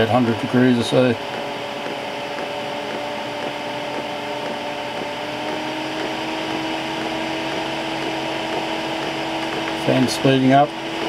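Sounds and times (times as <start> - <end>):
blower fan motor whine: 0.0 - 11.0.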